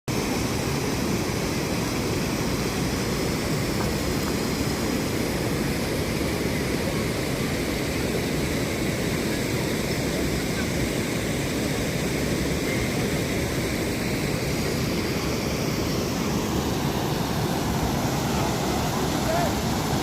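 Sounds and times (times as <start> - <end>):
waterfall rushing: 0.1 - 20.0.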